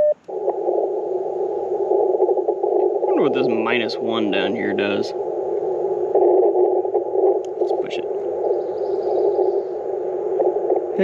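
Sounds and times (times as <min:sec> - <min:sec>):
radio receiver hiss: 0:00.0 - 0:11.0.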